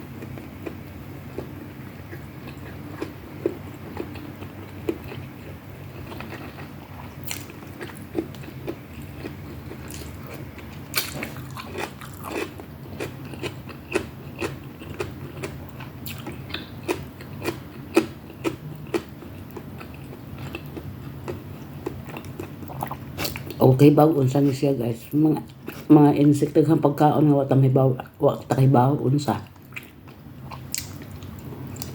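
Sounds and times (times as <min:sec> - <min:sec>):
steady low hum: 0:00.0 - 0:31.9
person chewing food: 0:00.1 - 0:23.6, 0:29.4 - 0:31.9.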